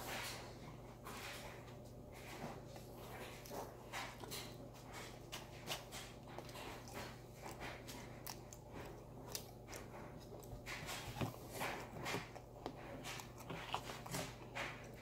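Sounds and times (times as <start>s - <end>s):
cookies crunching: 0.0s - 15.0s.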